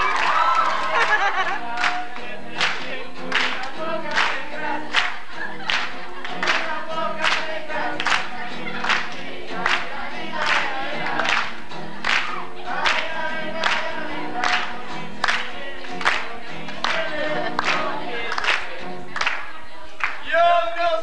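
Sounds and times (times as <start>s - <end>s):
sharp hand clap: 0.0s - 1.2s, 1.8s - 20.3s
acoustic guitar: 0.0s - 21.0s
voices singing together: 0.0s - 21.0s.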